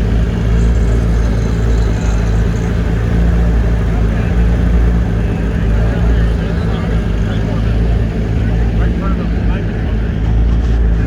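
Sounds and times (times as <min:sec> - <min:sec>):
car engine idling: 0:00.0 - 0:11.0
people talking: 0:00.0 - 0:11.0.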